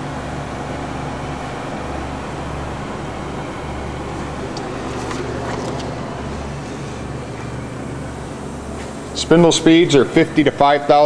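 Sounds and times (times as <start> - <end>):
fan whirring: 0.0 - 11.0
low electrical hum: 0.0 - 11.0.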